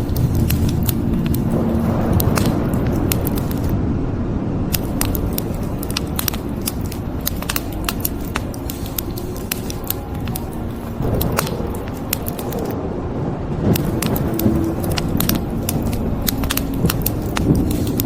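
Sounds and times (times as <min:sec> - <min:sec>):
wood fire crackling and popping: 0:00.0 - 0:03.7, 0:04.7 - 0:12.8, 0:13.7 - 0:18.0
rain rumble: 0:00.0 - 0:18.0.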